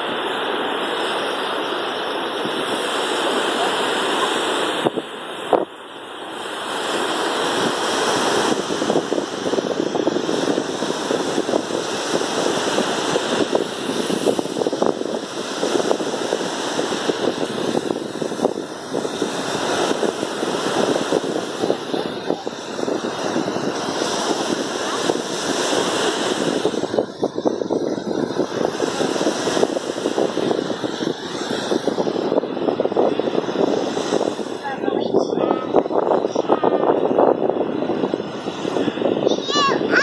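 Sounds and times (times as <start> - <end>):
waves washing up a beach: 0.0 - 40.0
wind buffeting microphone: 2.3 - 40.0.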